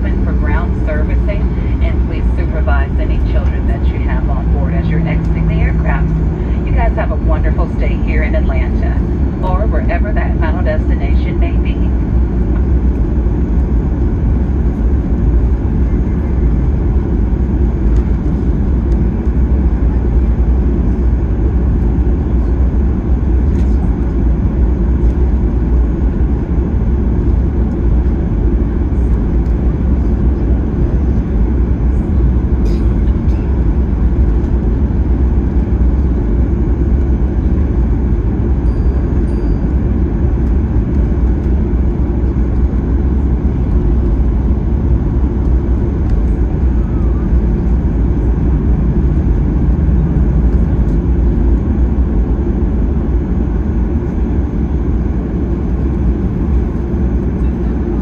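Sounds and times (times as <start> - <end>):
jet engines idling in cabin: 0.0 - 58.0.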